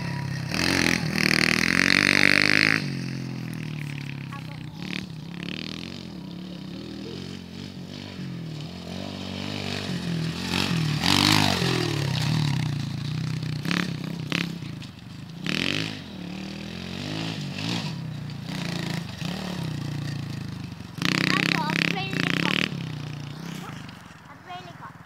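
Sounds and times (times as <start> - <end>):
pit bike engine revving: 0.0 - 25.0.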